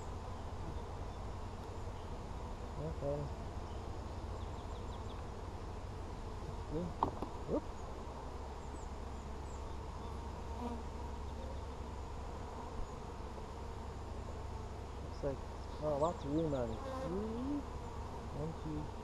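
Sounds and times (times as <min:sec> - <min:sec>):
bees humming: 0:00.0 - 0:19.0.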